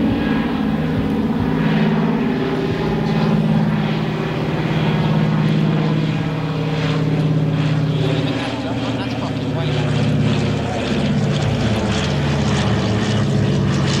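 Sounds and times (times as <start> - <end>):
propeller plane droning overhead: 0.0 - 14.0.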